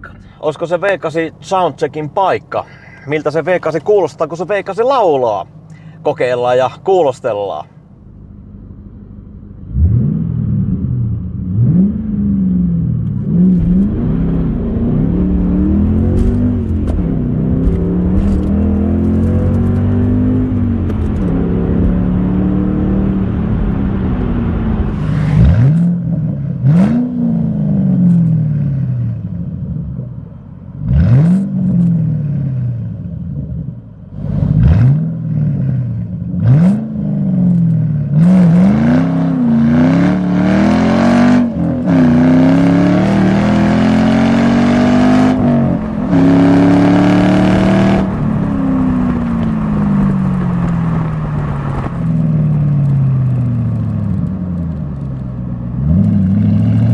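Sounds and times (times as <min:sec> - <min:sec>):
car engine revving: 0:07.8 - 0:56.9.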